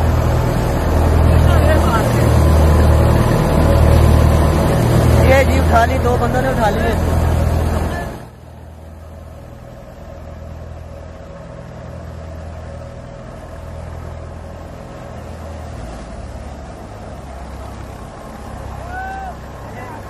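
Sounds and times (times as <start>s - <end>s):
threshing machine engine drone: 0.0s - 20.0s.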